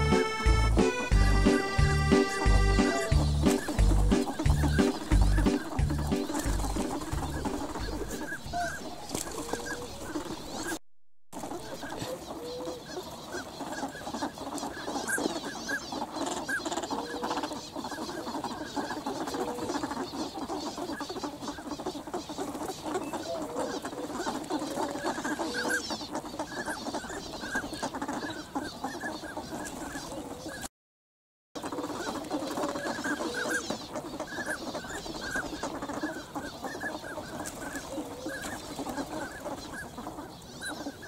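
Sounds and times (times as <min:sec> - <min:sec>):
swans and ducks calling: 0:00.0 - 0:10.8, 0:11.4 - 0:30.7, 0:31.6 - 0:41.0.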